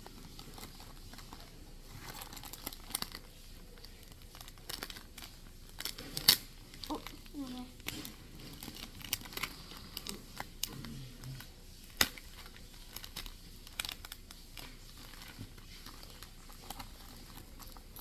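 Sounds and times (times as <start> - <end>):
plastic bags and tape crinkling: 0.0 - 18.0.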